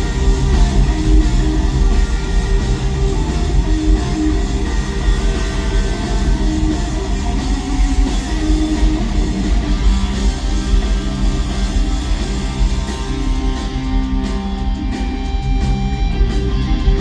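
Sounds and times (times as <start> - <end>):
bass: 0.0 - 17.0
drum kit: 0.0 - 17.0
electric guitar: 0.0 - 17.0.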